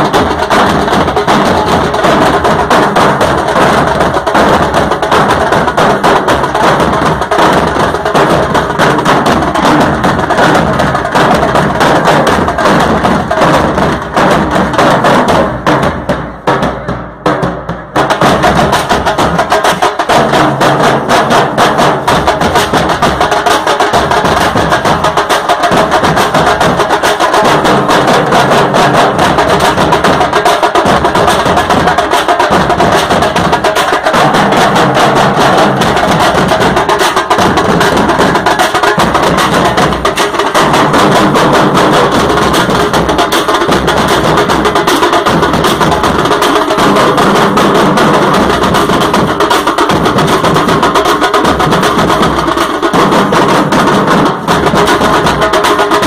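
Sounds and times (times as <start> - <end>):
drum band drumming loudly: 0.0 - 56.0.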